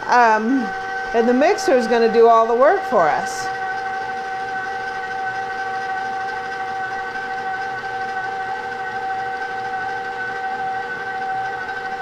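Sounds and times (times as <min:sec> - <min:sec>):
stand mixer whining: 0:00.0 - 0:12.0.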